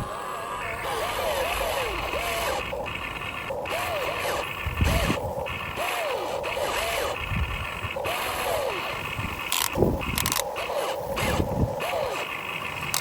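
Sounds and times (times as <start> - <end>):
electric gear motors whirring: 0.0 - 13.0.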